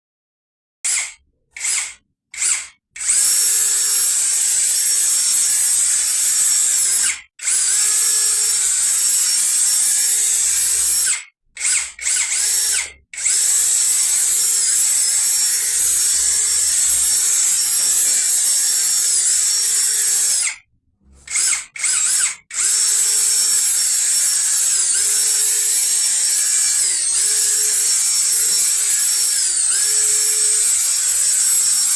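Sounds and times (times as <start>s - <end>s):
cordless drill motor whine: 0.9s - 20.6s, 21.3s - 31.9s.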